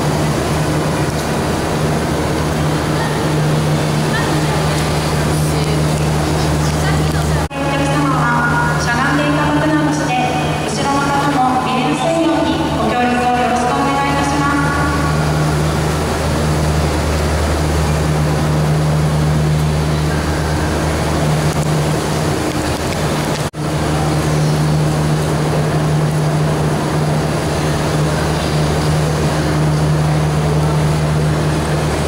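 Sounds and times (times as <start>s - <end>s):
heavy machinery droning: 0.0s - 32.0s.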